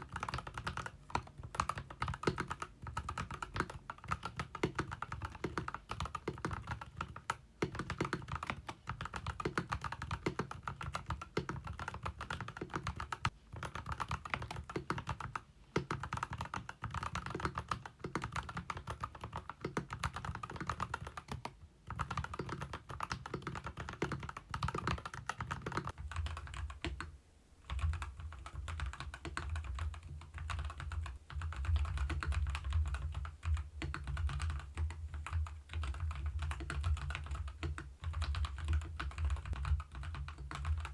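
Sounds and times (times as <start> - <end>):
mechanical keyboard typing: 0.0 - 27.1, 27.7 - 40.9.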